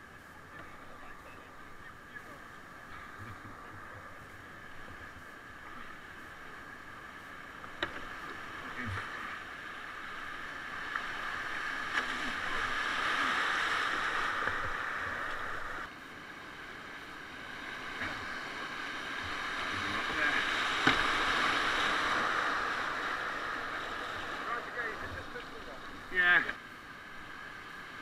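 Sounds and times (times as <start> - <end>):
whitewater rushing: 0.0 - 15.9, 16.5 - 28.0.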